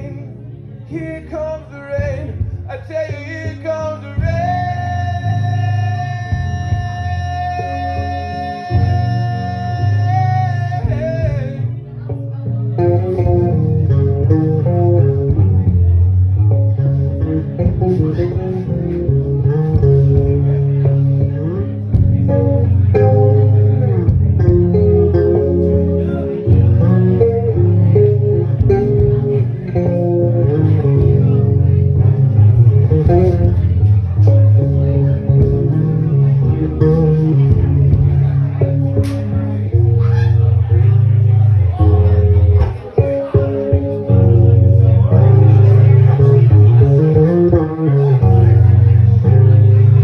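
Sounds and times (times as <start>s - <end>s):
electric bass guitar playing: 0.0s - 50.0s.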